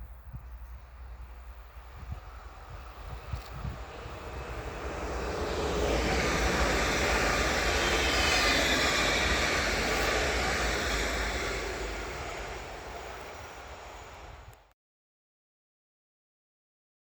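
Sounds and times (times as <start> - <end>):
electric train passing: 0.4 - 14.7.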